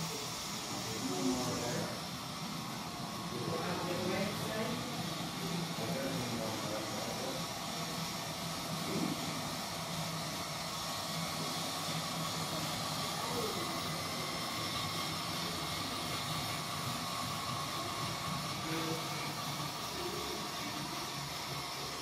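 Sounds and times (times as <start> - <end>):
steady hum and hiss: 0.0 - 22.0.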